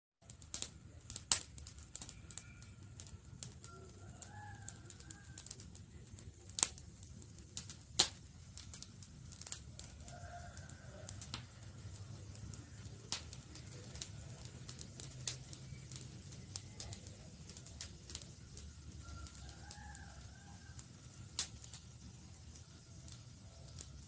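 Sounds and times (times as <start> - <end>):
campfire crackling and popping: 0.2 - 24.0
low rumble of flames: 0.2 - 24.0.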